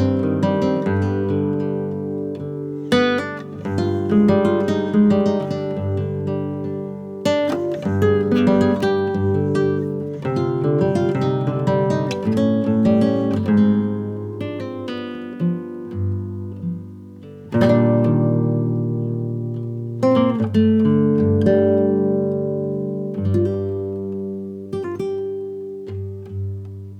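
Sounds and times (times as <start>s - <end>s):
acoustic guitar through speakers: 0.0s - 26.9s.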